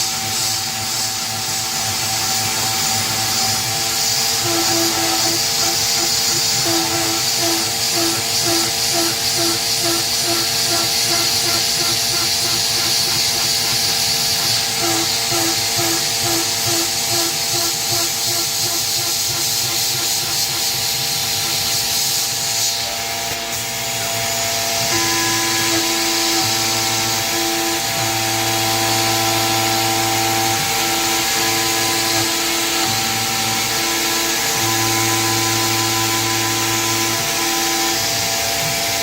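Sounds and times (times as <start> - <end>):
coolant mist hissing: 0.0 - 36.6
milling machine cutting: 0.0 - 39.0.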